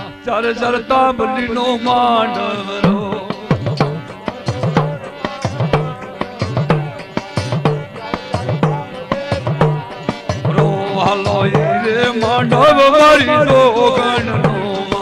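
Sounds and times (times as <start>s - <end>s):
hand drum beat: 2.8s - 15.0s.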